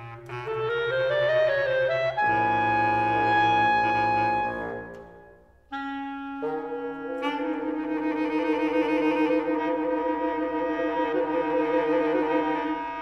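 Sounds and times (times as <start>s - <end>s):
woodwind trio playing chords: 0.0s - 13.0s.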